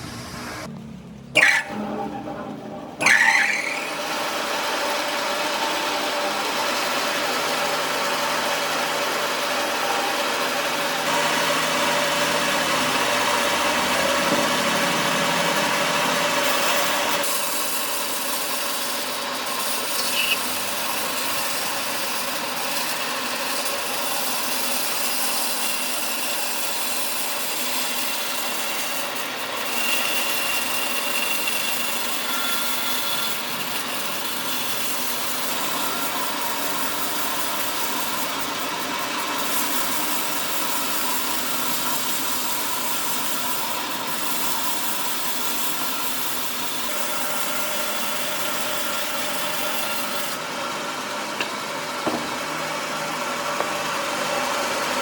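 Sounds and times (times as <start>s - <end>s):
sawing machine cutting wood: 1.4s - 55.0s.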